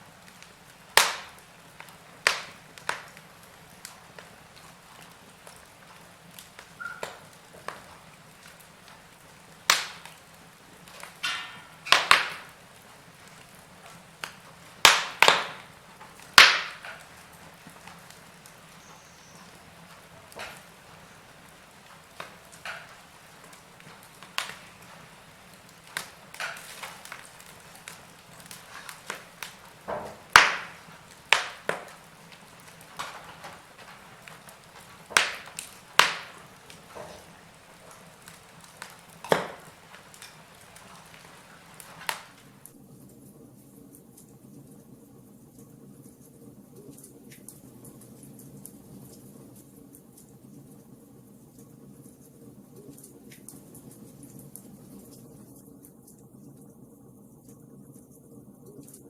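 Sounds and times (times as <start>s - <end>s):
faint hiss of flames: 0.0s - 59.0s
firewood crackling and popping: 0.0s - 59.0s.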